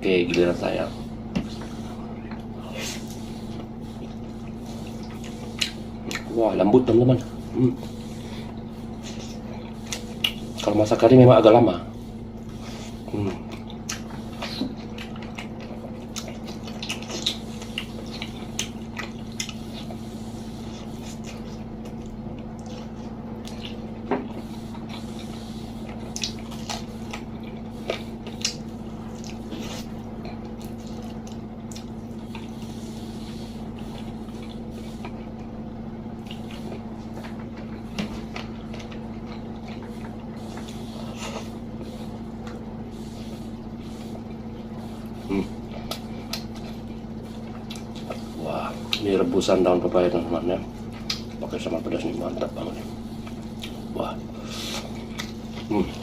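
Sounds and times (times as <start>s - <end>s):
low electrical hum: 0.0s - 56.0s
person chewing food: 0.2s - 11.1s, 12.1s - 49.4s, 50.2s - 56.0s.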